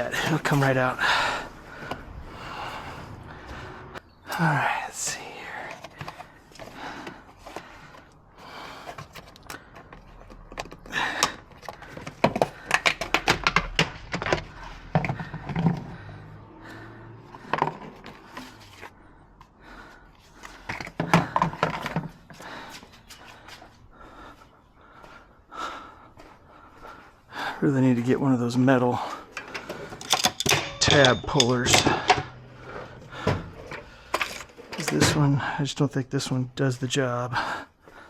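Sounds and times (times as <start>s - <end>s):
heavy breathing: 0.0s - 28.1s, 28.8s - 35.8s, 37.3s - 38.0s.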